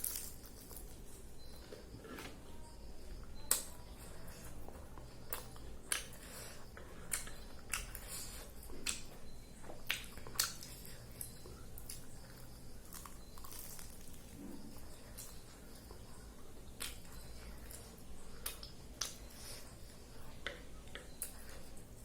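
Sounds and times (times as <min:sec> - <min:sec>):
person chewing with crunches: 0:00.0 - 0:02.3, 0:03.4 - 0:22.0.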